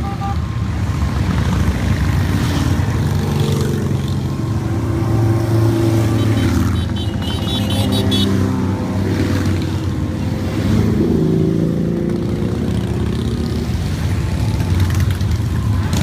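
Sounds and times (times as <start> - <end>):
motorcycles riding past: 0.4 - 16.0.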